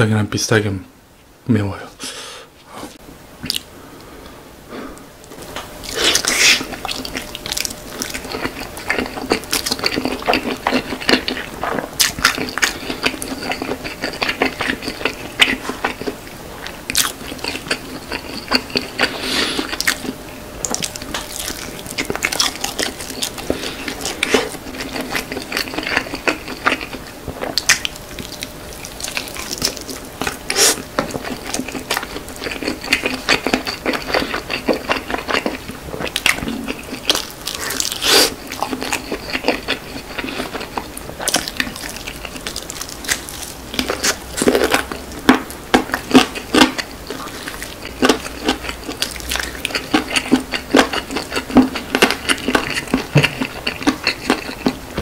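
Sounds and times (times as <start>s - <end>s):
biting and chewing crunchy food: 5.3s - 55.0s.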